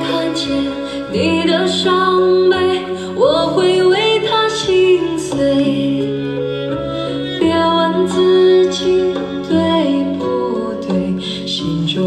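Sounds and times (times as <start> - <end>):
song through a speaker: 0.0 - 12.0.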